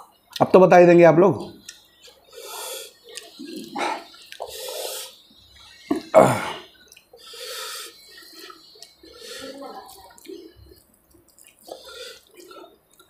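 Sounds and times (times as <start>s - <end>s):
wet chewing and lip-smacking: 1.6s - 6.1s, 6.7s - 13.0s.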